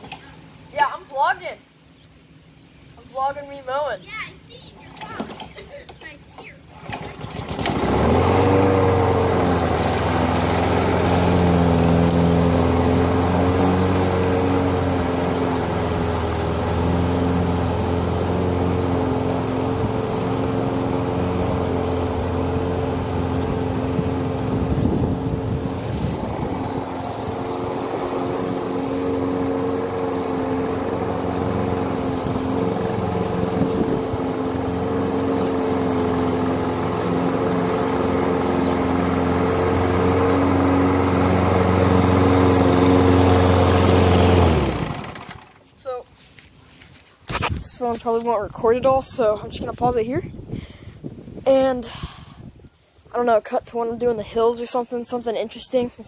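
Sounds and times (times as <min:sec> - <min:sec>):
push mower engine running: 0:03.2 - 0:50.0.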